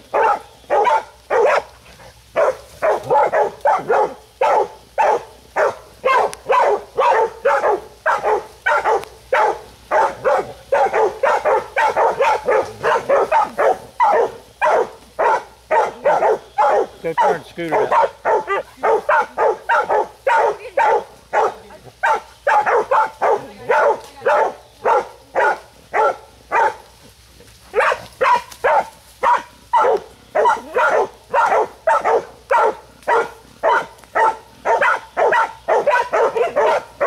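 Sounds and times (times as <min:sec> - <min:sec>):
dogs barking sharply: 0:00.1 - 0:01.8, 0:02.4 - 0:26.8, 0:27.7 - 0:37.0.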